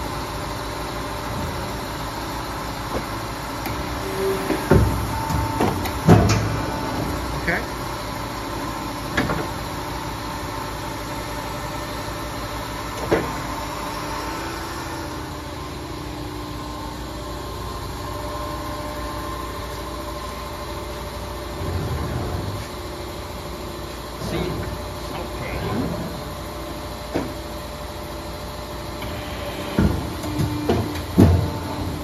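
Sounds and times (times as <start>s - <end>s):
hydraulic press humming: 1.0s - 32.0s.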